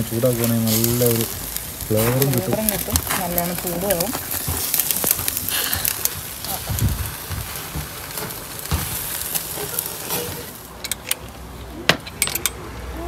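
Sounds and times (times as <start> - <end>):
meat sizzling on a grill: 0.0 - 11.8.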